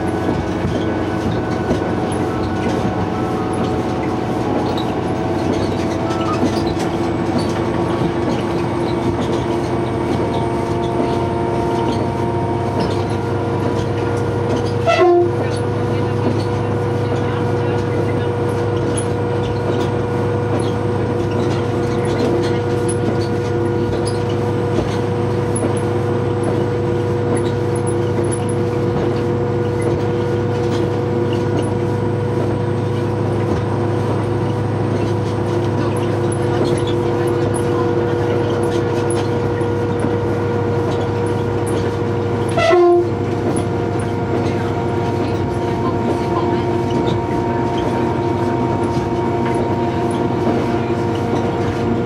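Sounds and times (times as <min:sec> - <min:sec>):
diesel train running: 0:00.0 - 0:52.0.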